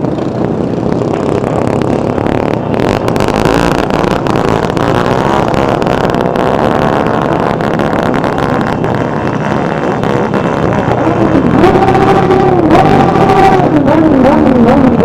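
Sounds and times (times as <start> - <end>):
many motorcycle engines running: 0.0 - 15.0.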